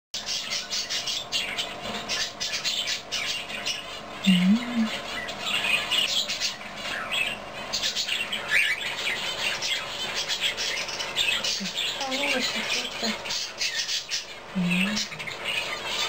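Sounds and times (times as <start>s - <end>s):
small birds chirping and chattering: 0.2s - 16.0s
low wavering hum: 1.2s - 16.0s.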